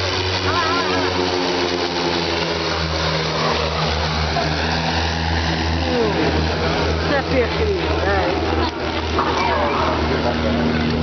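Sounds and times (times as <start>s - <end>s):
propeller plane engines: 0.0s - 11.0s.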